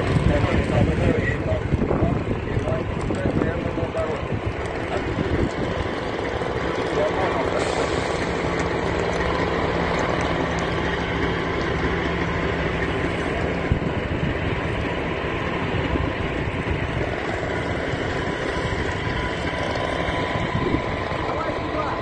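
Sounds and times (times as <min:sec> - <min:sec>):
low hum: 0:00.0 - 0:22.0
vehicle engine running: 0:00.0 - 0:22.0.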